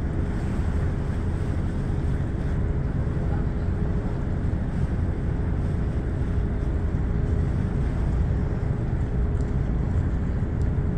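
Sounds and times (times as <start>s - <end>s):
boat engine rumble: 0.0s - 10.9s.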